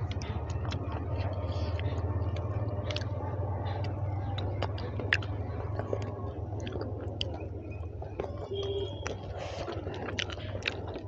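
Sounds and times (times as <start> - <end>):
close-up chewing: 0.0 - 11.0
low hum: 0.0 - 11.0
wet mouth clicks and smacks: 0.0 - 11.0.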